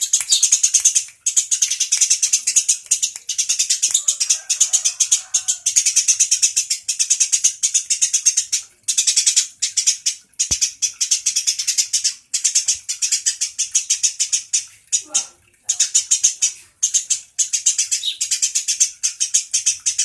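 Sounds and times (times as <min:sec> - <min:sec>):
songbird rattling trill: 0:00.0 - 0:20.0.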